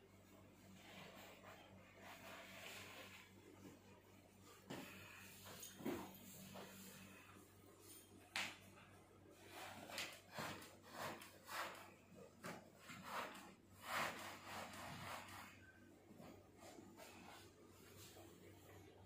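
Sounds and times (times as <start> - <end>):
fabric rustling and rubbing: 0.1 - 8.2, 8.8 - 18.8.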